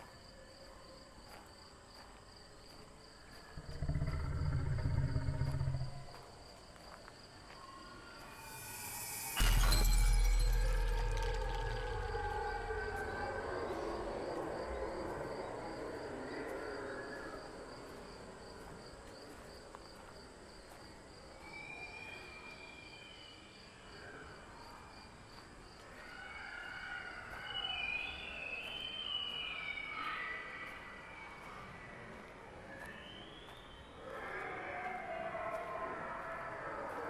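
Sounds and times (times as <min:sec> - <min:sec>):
cricket-like chirping: 0:00.0 - 0:30.1.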